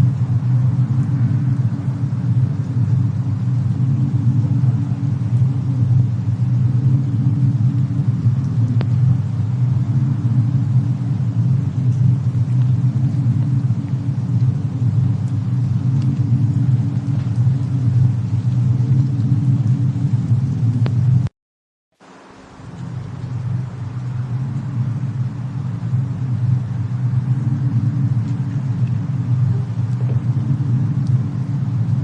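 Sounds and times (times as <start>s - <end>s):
faint fire crackles: 0.0s - 21.3s, 22.0s - 32.0s
low rumble: 0.0s - 21.3s, 22.1s - 32.0s.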